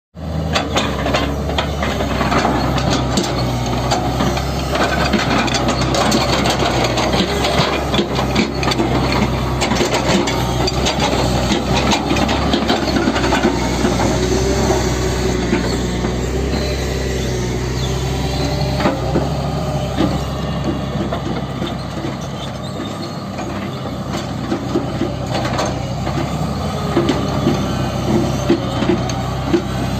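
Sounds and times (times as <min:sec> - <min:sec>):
heavy machine engine running: 0:00.2 - 0:29.9
machinery rattling and scraping: 0:00.2 - 0:29.9.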